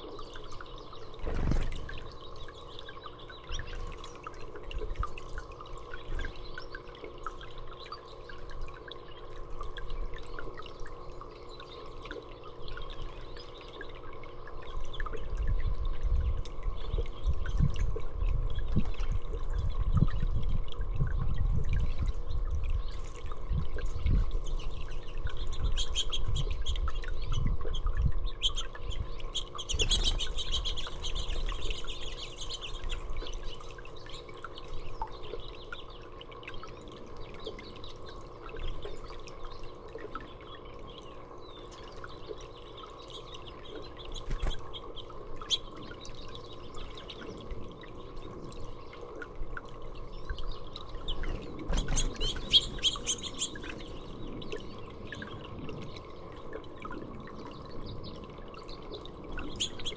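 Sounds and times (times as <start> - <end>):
small birds chirping: 0.0 - 17.7, 21.8 - 49.3, 50.0 - 56.4, 57.4 - 59.9
water trickling and dripping: 0.0 - 59.9.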